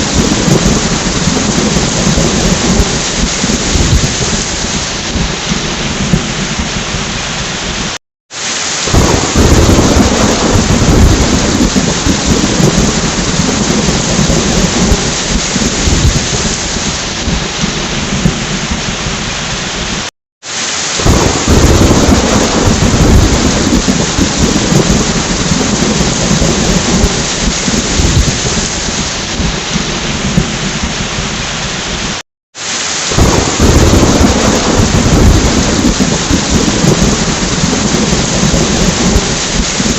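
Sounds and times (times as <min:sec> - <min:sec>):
rolling thunder: 0:00.0 - 0:08.0, 0:08.8 - 0:20.1, 0:21.0 - 0:32.2, 0:33.1 - 0:39.9
heavy rain: 0:00.0 - 0:39.9.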